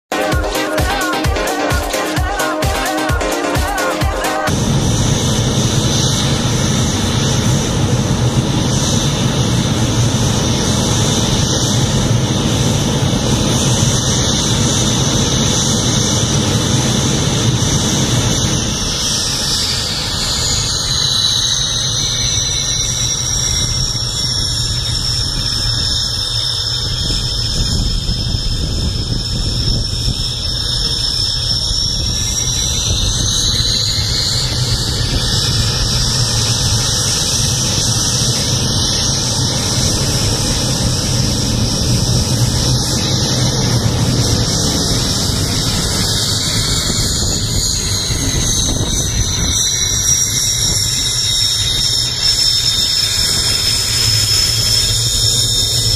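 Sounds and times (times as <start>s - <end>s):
jet engine high whine: 0.0s - 55.9s
jet engine low rumble: 2.1s - 55.9s.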